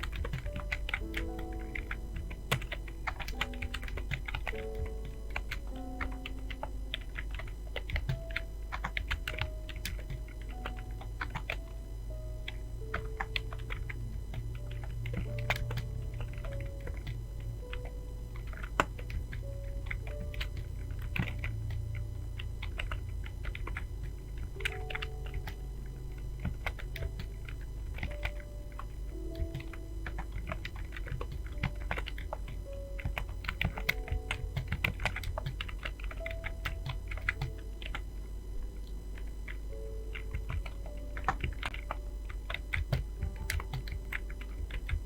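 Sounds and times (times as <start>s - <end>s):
fast typing on keyboard: 0.0s - 45.0s.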